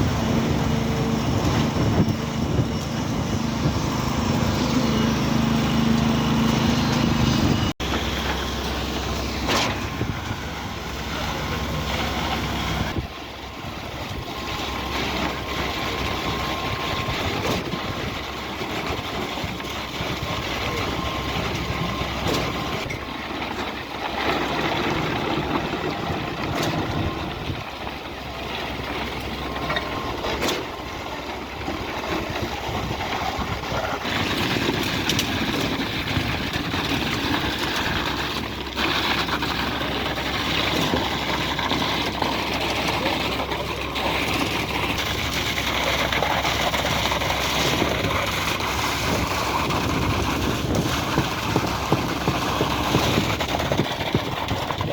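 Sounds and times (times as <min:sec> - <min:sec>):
diesel machinery running: 0:00.0 - 0:54.9.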